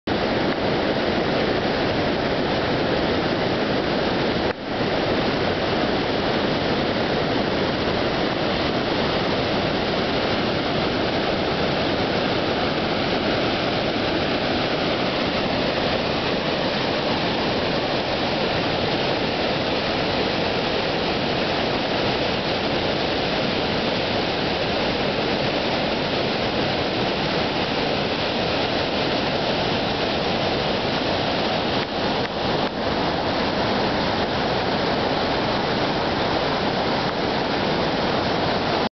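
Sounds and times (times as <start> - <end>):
whitewater rushing over boulders: 0.1 - 38.9.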